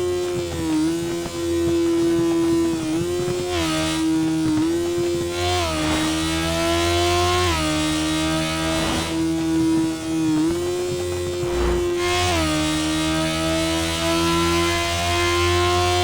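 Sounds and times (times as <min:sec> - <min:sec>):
motorcycle engine running hard: 0:00.0 - 0:16.0.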